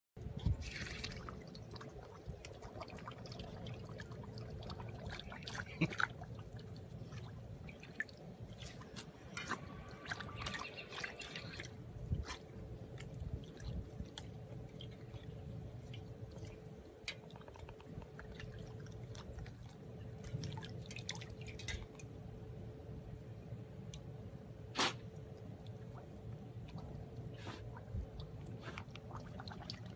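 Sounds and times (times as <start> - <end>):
water dripping and splashing: 0.2 - 22.2, 25.3 - 29.9
faint steady hum: 0.2 - 29.9.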